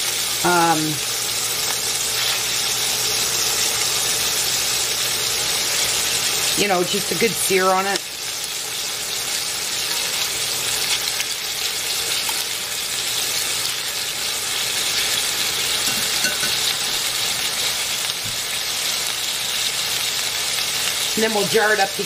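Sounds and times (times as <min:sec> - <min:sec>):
meat sizzling in a skillet: 0:00.0 - 0:22.0.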